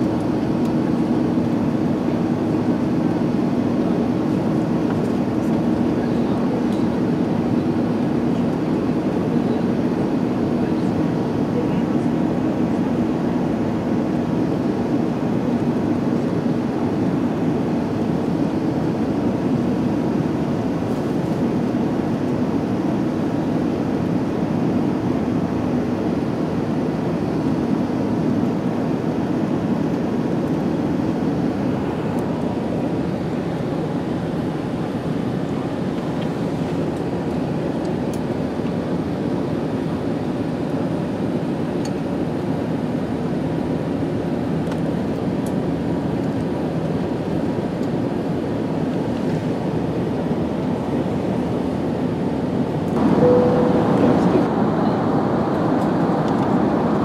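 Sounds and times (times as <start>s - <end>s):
low rumble of jet engines: 0.0s - 57.0s.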